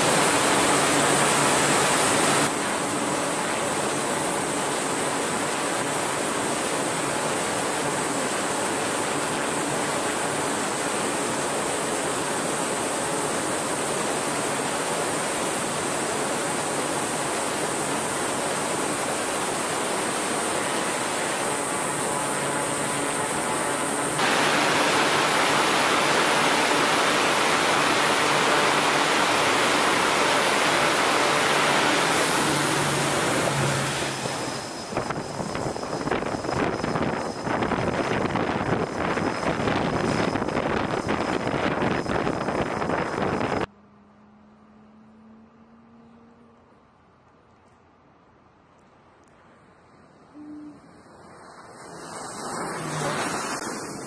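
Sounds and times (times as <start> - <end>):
jet engines rushing: 0.0 - 43.7, 49.7 - 54.0.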